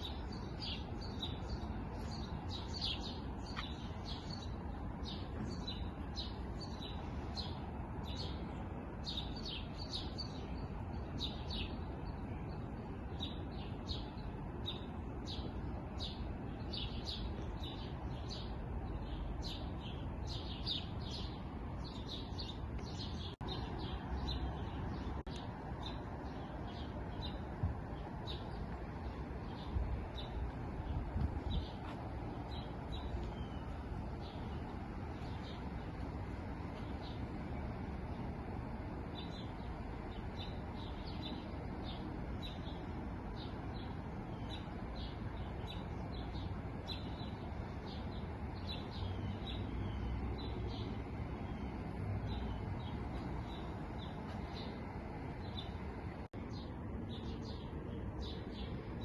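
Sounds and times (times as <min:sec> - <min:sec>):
small birds chirping: 0:00.0 - 0:59.0
steady low rumble: 0:10.3 - 0:59.0.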